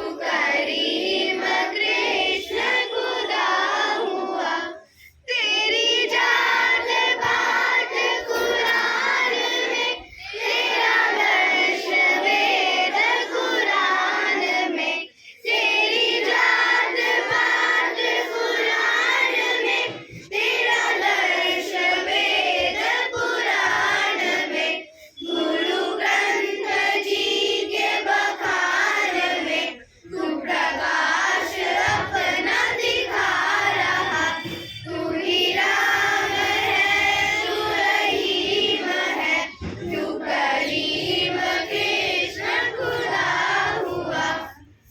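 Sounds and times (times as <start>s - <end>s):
children singing: 0.0s - 44.9s.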